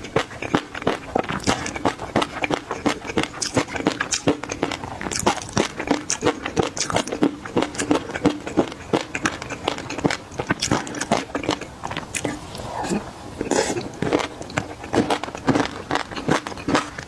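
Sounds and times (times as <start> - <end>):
wet chewing clicks: 0.0 - 17.0.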